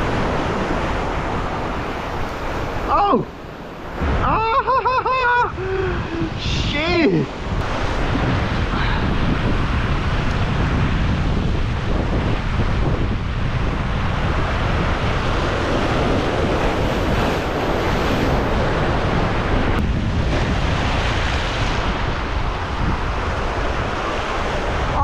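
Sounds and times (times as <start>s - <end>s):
surf breaking over rocks: 0.0s - 25.0s
wind buffeting microphone: 0.0s - 25.0s.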